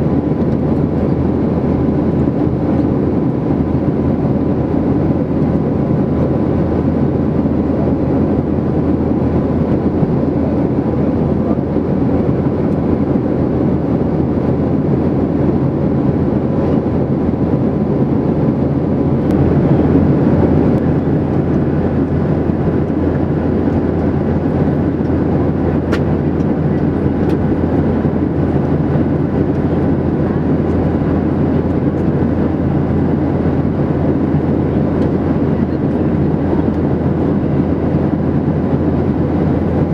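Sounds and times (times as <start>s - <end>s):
airflow: 0.0s - 39.9s
jet engine drone: 0.0s - 39.9s.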